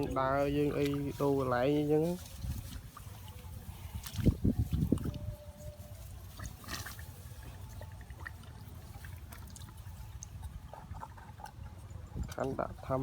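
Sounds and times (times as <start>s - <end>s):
shallow water trickling: 0.0s - 13.0s.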